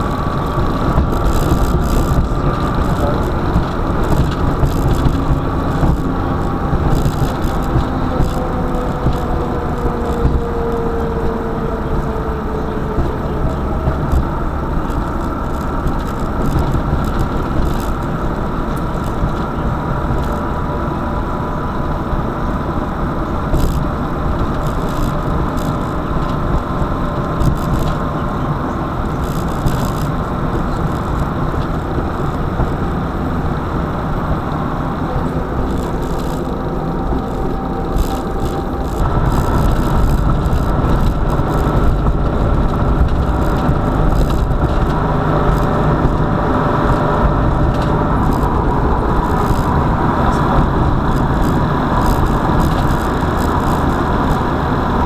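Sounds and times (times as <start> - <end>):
car engine and road rumble: 0.0 - 55.0
faint whine: 0.0 - 55.0.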